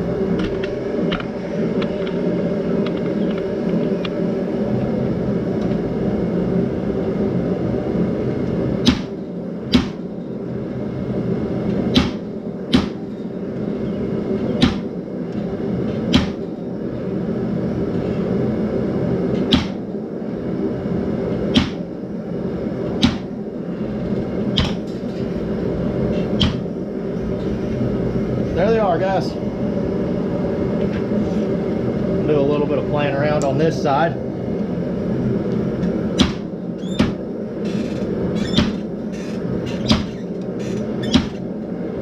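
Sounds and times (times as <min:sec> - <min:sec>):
steady low drone: 0:00.0 - 0:42.0.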